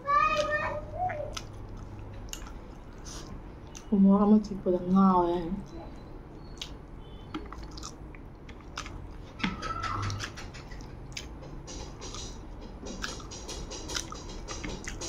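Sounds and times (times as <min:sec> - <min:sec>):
person chewing with wet clicks: 0:00.3 - 0:04.0, 0:05.6 - 0:09.5, 0:10.1 - 0:15.0.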